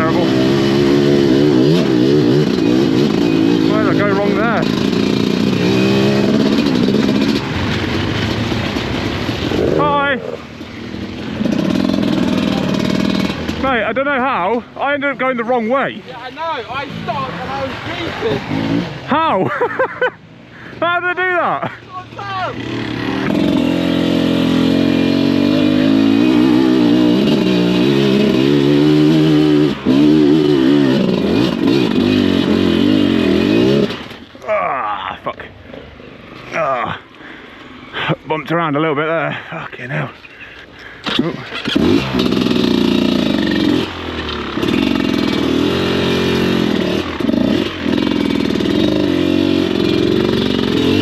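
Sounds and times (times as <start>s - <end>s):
motorcycle engine revving: 0.0s - 19.4s, 22.4s - 34.5s, 41.0s - 51.0s.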